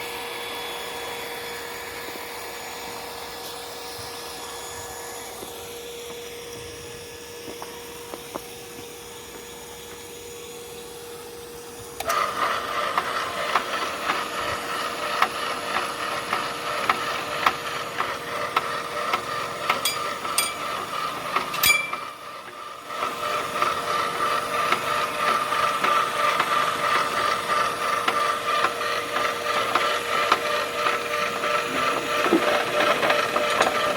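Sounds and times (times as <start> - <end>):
drilling rig whining and grinding: 0.0 - 33.9.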